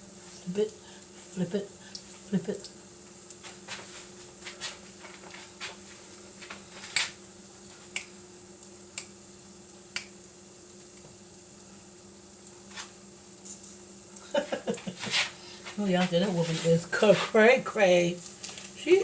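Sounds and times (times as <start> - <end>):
meat sizzling in a pan: 0.0 - 15.6.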